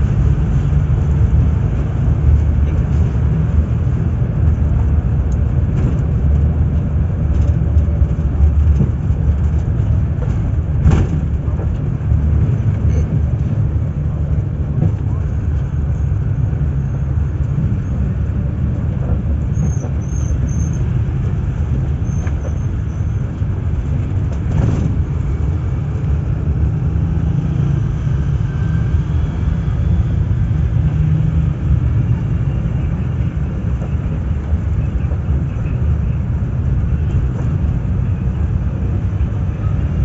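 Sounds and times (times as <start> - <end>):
bus engine and road rumble: 0.0 - 40.0.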